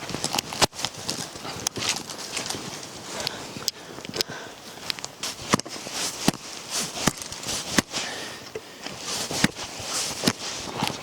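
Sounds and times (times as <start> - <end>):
footsteps crunching through snow: 0.0 - 3.6, 4.7 - 8.3, 8.9 - 11.0.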